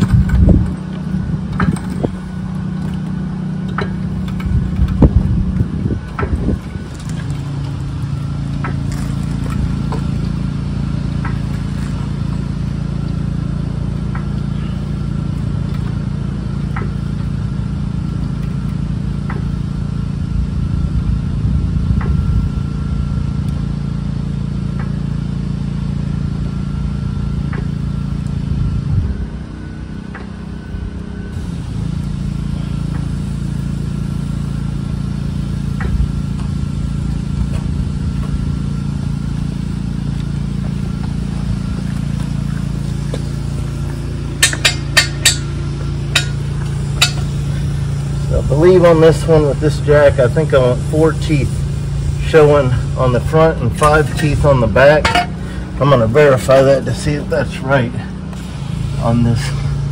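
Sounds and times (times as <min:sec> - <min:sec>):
steady low drone: 0:00.0 - 0:59.9.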